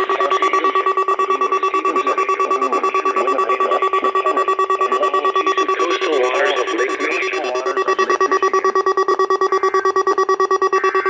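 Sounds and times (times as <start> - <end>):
pulsing electronic beeping: 0.0 - 11.0.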